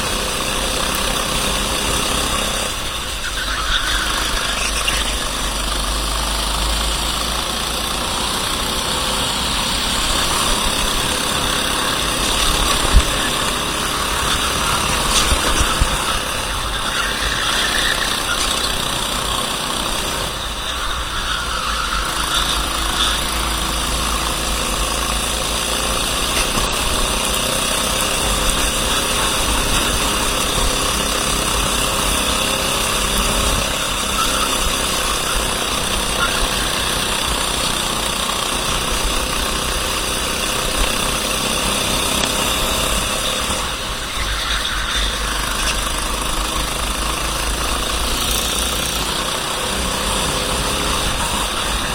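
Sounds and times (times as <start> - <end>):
racing kart engine running: 0.0 - 51.9.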